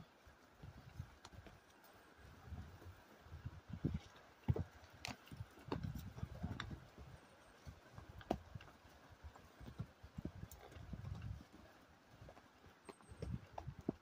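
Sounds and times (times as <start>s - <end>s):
horse hooves walking on trail: 0.0s - 14.0s.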